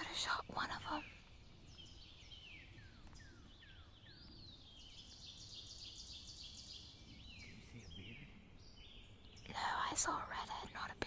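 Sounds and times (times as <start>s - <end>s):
songbirds whistling: 0.0s - 11.0s.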